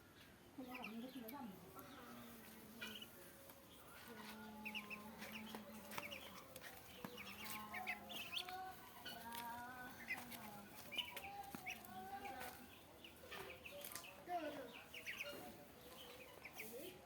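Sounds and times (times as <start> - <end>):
chickens clucking: 0.2 - 17.0.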